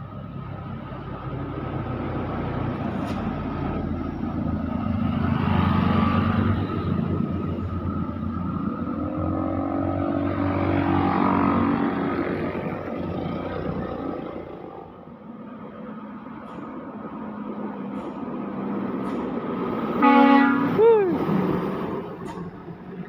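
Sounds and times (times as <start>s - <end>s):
vehicles passing on road: 0.0s - 23.0s.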